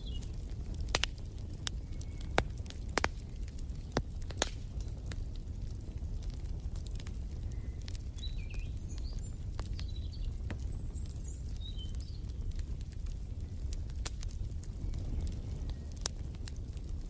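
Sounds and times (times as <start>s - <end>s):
low steady fire rumble: 0.0s - 17.0s
wood fire crackling: 0.0s - 17.0s.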